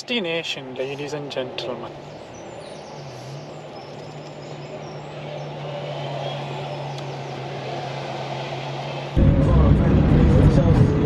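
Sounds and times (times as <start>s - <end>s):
road noise: 0.0s - 11.0s
car engine humming: 0.6s - 11.0s.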